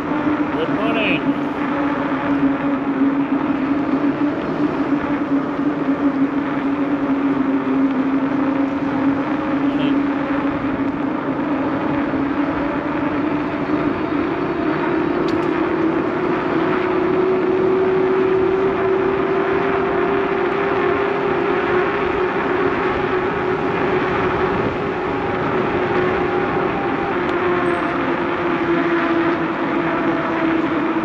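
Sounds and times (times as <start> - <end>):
droning hum: 0.0 - 31.0
wind and road noise: 0.0 - 31.0.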